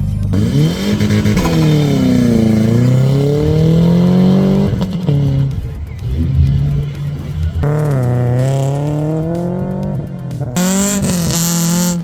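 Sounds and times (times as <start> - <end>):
turbocharged car engine revving: 0.0 - 12.0.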